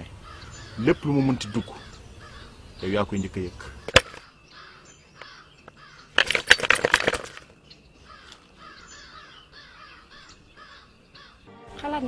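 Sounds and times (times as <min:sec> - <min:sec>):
crows cawing: 0:00.0 - 0:11.6.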